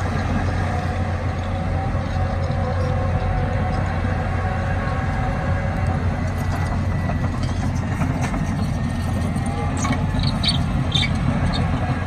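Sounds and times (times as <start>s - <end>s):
bulldozer engine rumble: 0.0s - 12.0s.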